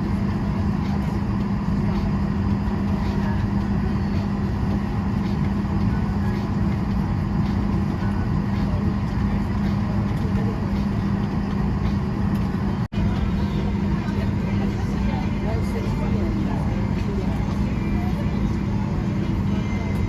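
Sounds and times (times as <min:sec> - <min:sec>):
airliner cabin hum and air rush: 0:00.0 - 0:20.0
faint passenger chatter: 0:00.0 - 0:20.0.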